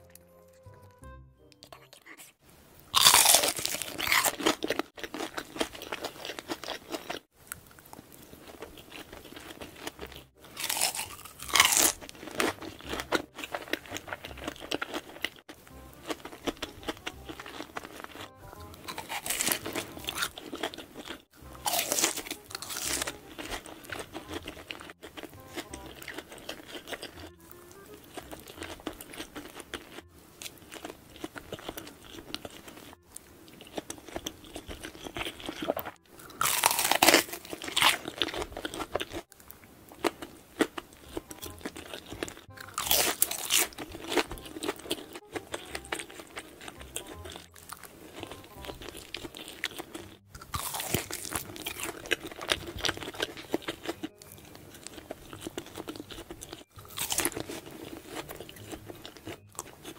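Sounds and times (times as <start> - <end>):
crunching bites of fried chicken: 3.0 - 39.4, 40.0 - 59.9
chewing and mouth clicks: 3.0 - 59.9.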